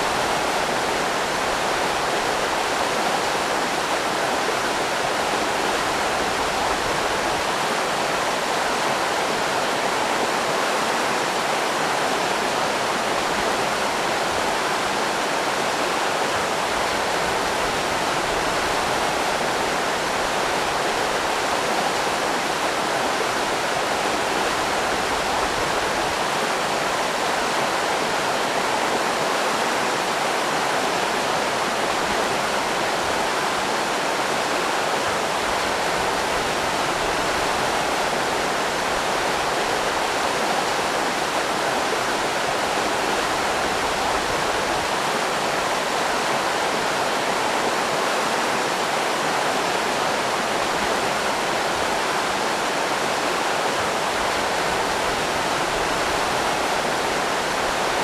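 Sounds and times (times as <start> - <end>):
river rapids roaring: 0.0 - 58.0.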